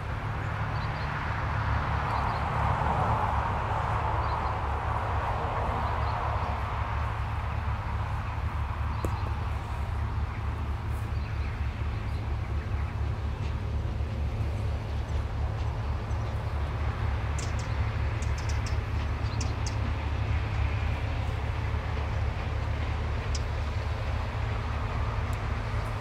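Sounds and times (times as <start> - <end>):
combine harvester engine rumble: 0.0 - 26.0.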